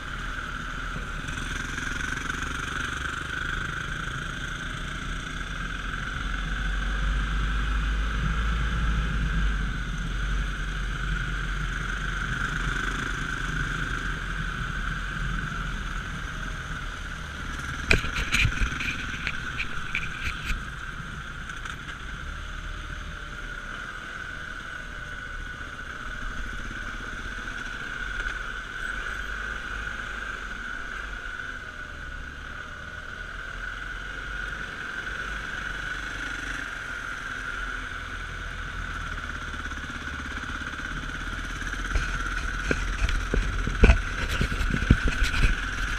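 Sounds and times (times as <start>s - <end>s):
dirt bike engine running: 0.0s - 31.5s, 33.6s - 45.9s.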